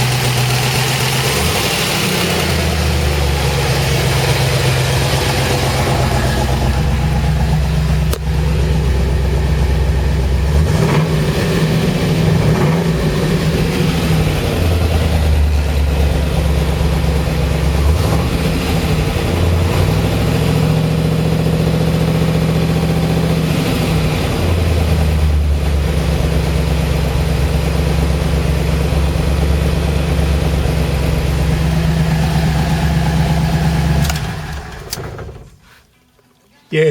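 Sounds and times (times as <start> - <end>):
car engine idling and revving: 0.0 - 35.5.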